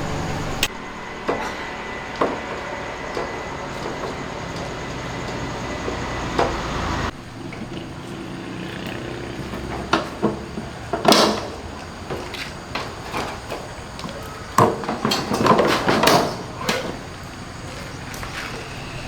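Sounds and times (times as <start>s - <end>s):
knocks and clatters: 0.0s - 19.0s
steady machine noise: 0.0s - 19.0s.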